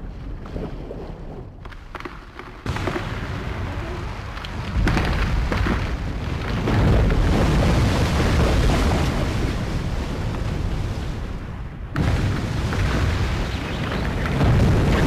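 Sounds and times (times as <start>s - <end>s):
deep rumble of ice collapsing: 0.0s - 15.0s.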